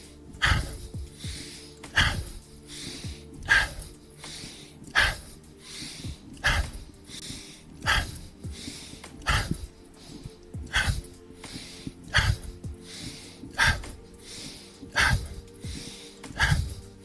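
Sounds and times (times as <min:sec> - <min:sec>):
person breathing in and exhaling: 0:00.0 - 0:17.0
soft background music: 0:00.0 - 0:17.0.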